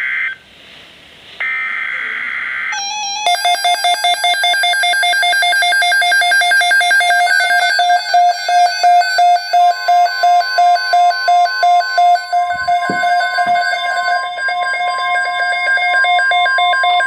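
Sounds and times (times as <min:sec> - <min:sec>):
electronic beeping alarm: 0:01.4 - 0:17.0
steady high tone: 0:01.4 - 0:17.0.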